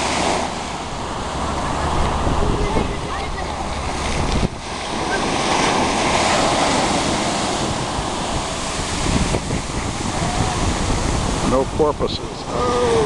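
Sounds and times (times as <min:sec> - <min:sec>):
ocean surf washing in: 0:00.0 - 0:13.0
wind buffeting microphone: 0:00.0 - 0:13.0.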